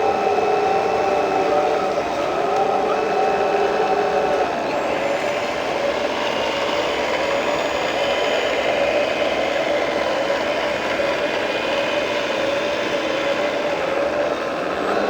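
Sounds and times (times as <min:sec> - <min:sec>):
model machinery motor whine: 0:00.0 - 0:15.0.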